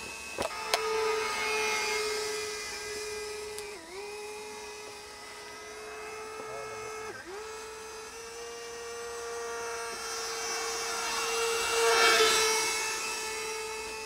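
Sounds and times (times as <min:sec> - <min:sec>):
electric ducted fan whine: 0:00.0 - 0:14.0.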